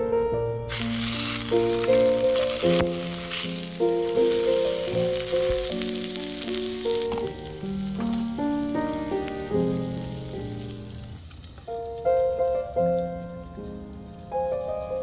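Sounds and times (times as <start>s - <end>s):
background music melody: 0.0s - 15.0s
fish sizzling in a pan: 0.7s - 15.0s.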